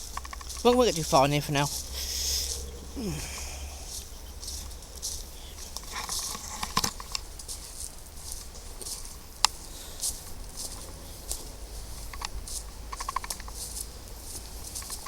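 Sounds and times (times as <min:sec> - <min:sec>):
footsteps on leaves and twigs: 0:00.0 - 0:15.0.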